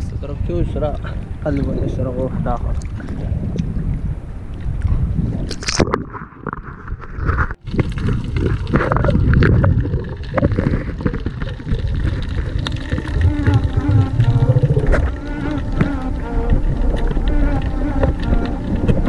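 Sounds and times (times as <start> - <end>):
low underwater rumble: 0.0 - 19.0
underwater clicks and crackles: 0.7 - 19.0.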